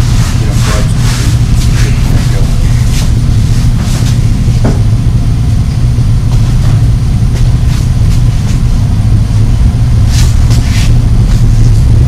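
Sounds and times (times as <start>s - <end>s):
loud steady low hum: 0.0s - 12.0s.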